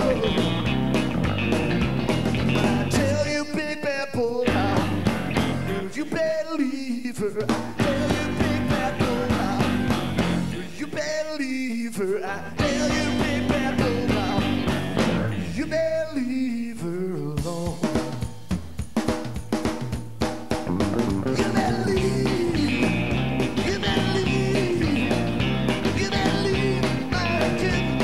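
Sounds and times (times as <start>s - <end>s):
man singing rock song: 0.0s - 0.7s, 2.4s - 18.3s, 20.7s - 28.0s
live rock band: 0.0s - 28.0s.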